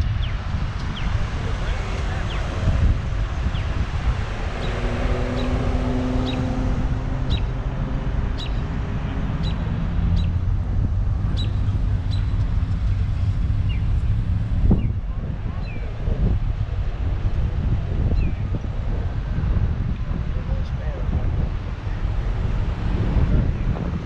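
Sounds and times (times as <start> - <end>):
road traffic passing: 0.0 - 24.0
vehicle engine hum: 0.0 - 24.0
wind buffeting microphone: 0.0 - 24.0.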